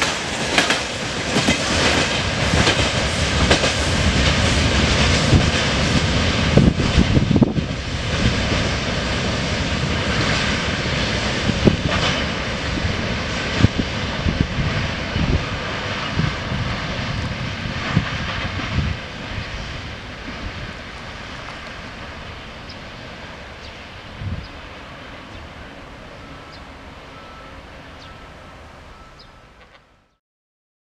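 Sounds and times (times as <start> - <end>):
freight train wagons rolling: 0.0 - 29.9.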